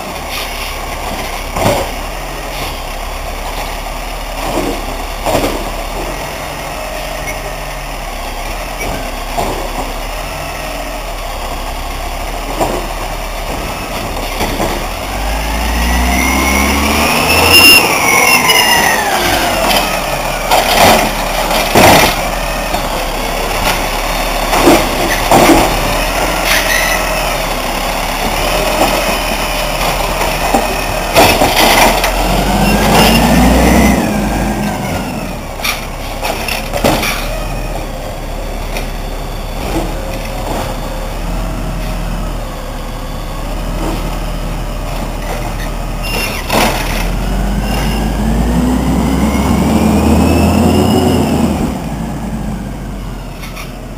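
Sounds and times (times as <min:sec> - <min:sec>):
trash cart and arm clanking: 0:00.0 - 0:02.8, 0:03.4 - 0:06.3, 0:12.3 - 0:38.0, 0:38.6 - 0:42.2, 0:43.6 - 0:51.9
garbage truck engine revving: 0:00.0 - 0:53.9.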